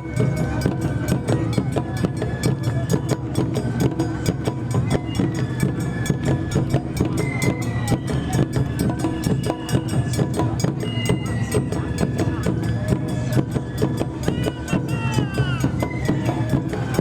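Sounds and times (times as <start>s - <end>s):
music with fast beat: 0.0s - 17.0s.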